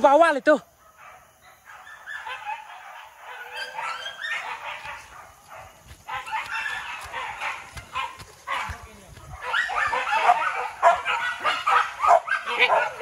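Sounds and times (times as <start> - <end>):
dogs yelping and barking: 0.8 - 13.0.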